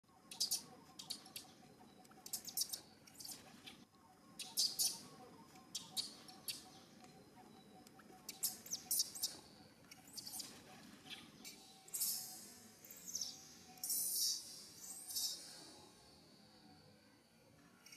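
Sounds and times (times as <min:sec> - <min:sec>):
small birds chirping: 0:00.2 - 0:03.8, 0:04.4 - 0:15.6.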